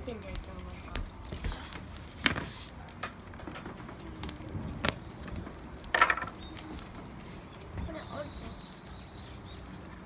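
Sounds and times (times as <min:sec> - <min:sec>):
bonfire popping and crackling: 0:00.0 - 0:10.0.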